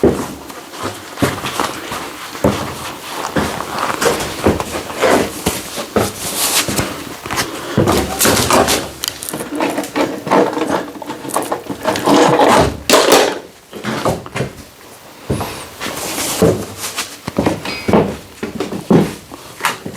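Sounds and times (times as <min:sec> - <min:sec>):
objects being handled and moved: 0:00.0 - 0:19.9.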